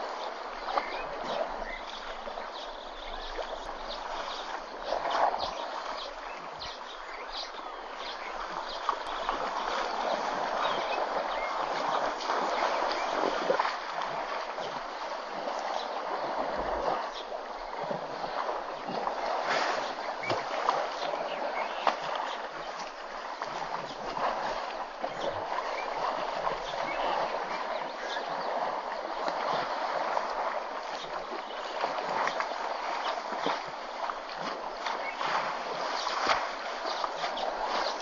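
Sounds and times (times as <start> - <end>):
water sloshing and splashing: 0.0 - 38.0.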